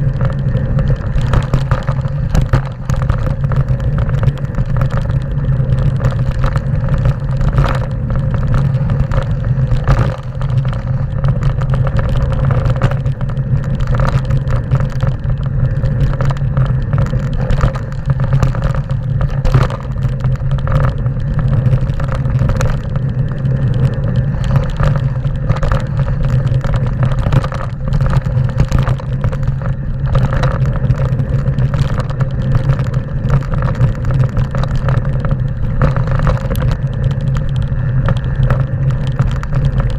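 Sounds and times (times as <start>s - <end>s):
bike clattering over stones: 0.0s - 39.9s
tyres rumbling on gravel: 0.0s - 39.9s
wind on microphone: 0.0s - 39.9s.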